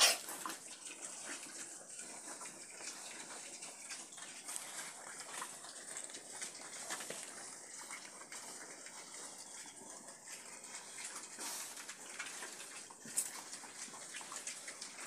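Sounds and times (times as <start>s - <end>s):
pigs chewing and snuffling: 0.0s - 15.0s.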